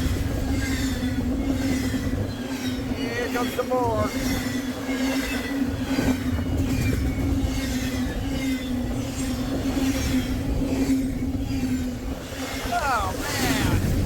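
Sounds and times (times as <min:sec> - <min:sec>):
freight train passing: 0:00.0 - 0:14.0
locomotive hum: 0:00.0 - 0:14.0.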